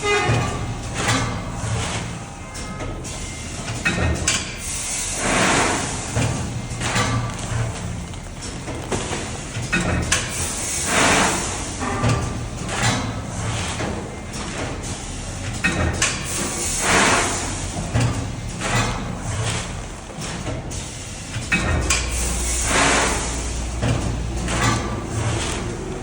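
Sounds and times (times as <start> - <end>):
machine clicks and knocks: 0.2 - 4.6, 5.2 - 26.0.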